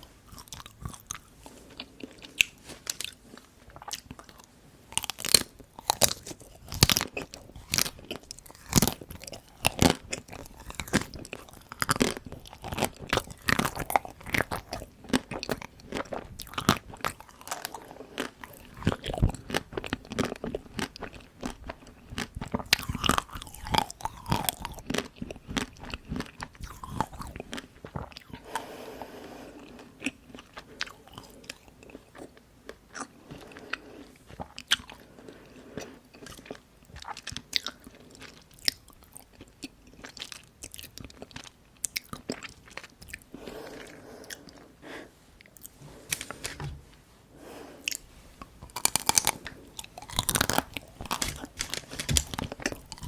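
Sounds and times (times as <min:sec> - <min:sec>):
crunchy chewing: 0:00.0 - 0:28.8, 0:29.5 - 0:46.7, 0:47.5 - 0:53.0.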